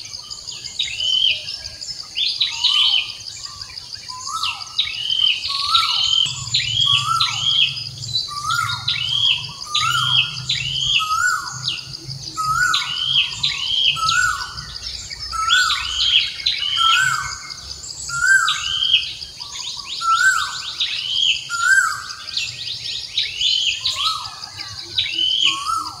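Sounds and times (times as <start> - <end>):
birds calling: 0.0 - 26.0
high-pitched insect drone: 2.0 - 26.0.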